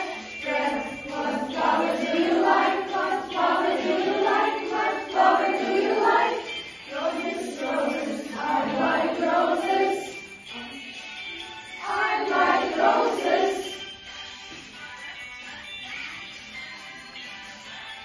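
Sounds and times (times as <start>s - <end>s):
group of voices singing: 0.0s - 15.3s.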